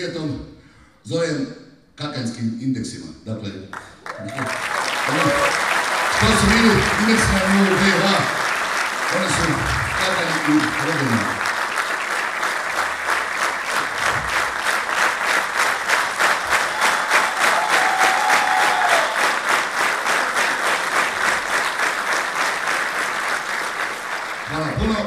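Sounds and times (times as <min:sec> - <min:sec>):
audience applauding: 0:03.7 - 0:25.0.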